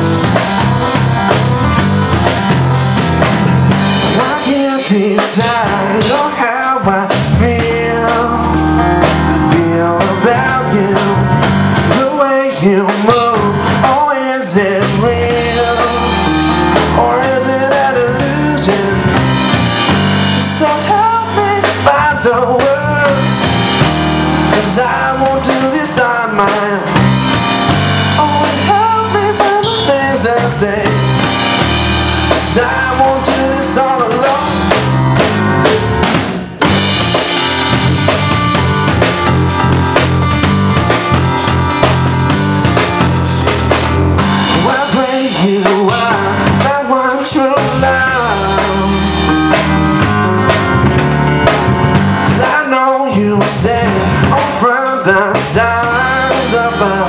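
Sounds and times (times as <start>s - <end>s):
drum kit: 0.0s - 57.0s
electric bass guitar: 0.0s - 57.0s
electronic keyboard: 0.0s - 57.0s.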